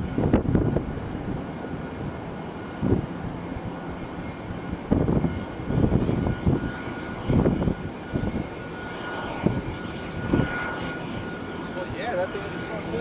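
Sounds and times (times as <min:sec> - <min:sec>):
jet engines whining: 0:00.0 - 0:13.0
wind buffeting microphone: 0:00.0 - 0:13.0.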